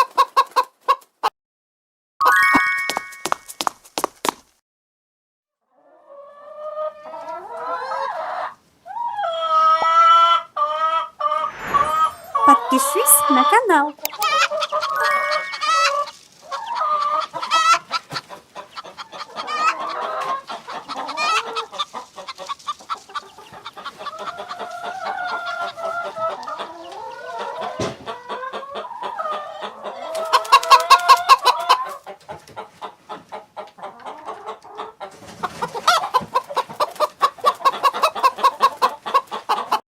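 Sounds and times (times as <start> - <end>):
chickens clucking: 0.0 - 1.1, 5.8 - 39.8.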